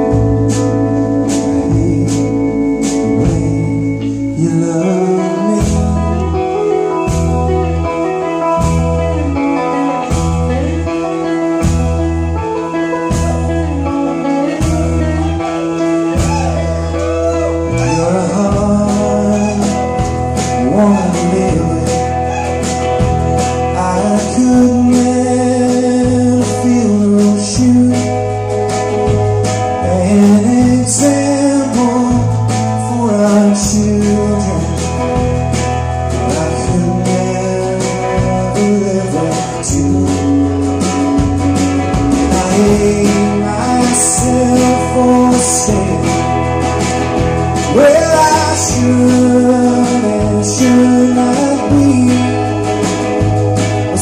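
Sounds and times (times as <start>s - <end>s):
acoustic guitar: 0.0s - 54.0s
bass guitar: 0.0s - 54.0s
drums keeping a steady beat: 0.0s - 54.0s
electric guitar: 0.0s - 54.0s
man singing lead: 0.0s - 54.0s.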